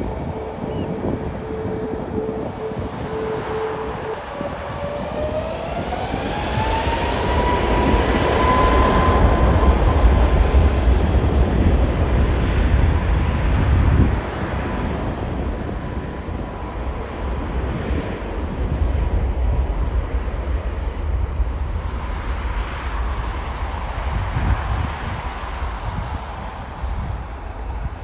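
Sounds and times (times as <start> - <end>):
deep engine rumble: 0.0 - 28.0
jet engine whine: 0.0 - 28.0.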